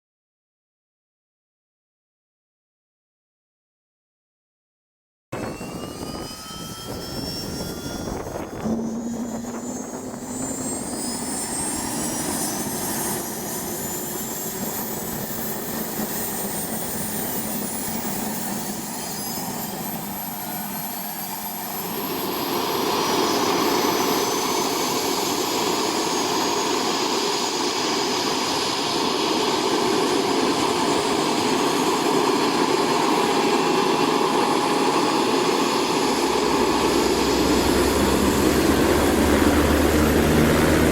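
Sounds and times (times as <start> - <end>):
turbine engine spooling up: 5.4 - 40.9.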